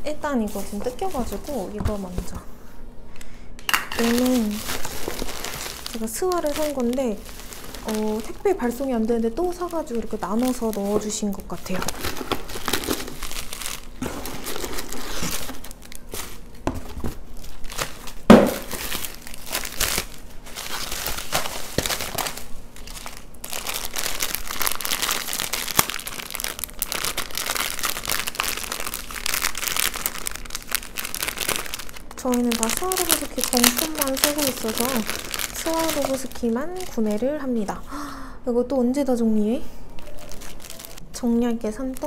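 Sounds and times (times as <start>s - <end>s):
bubble wrap crinkling: 0.0s - 2.4s, 3.9s - 37.9s, 39.4s - 42.0s.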